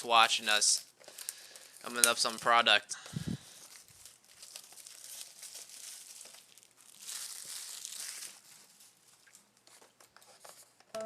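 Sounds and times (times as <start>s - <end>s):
foil wrappers crinkling and tearing: 0.0s - 2.8s, 3.4s - 10.6s.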